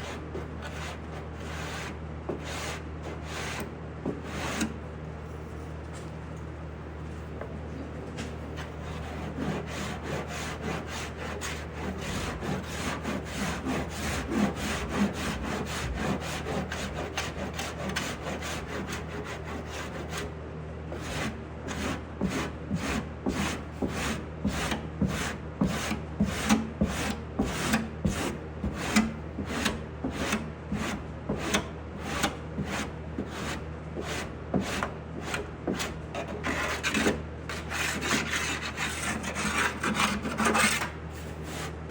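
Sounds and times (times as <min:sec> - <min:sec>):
abrasive block scraping filler: 0:00.0 - 0:04.8, 0:08.2 - 0:20.2, 0:21.0 - 0:41.9.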